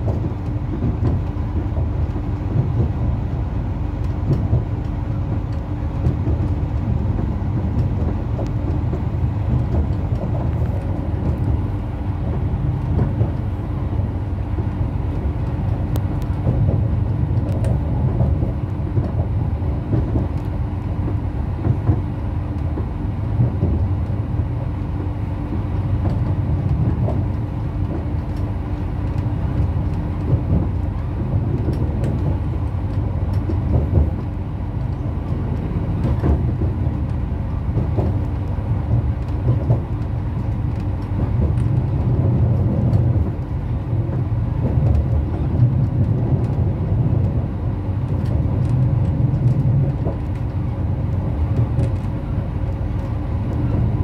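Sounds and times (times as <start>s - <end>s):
railcar rumble and hum: 0.0s - 54.0s.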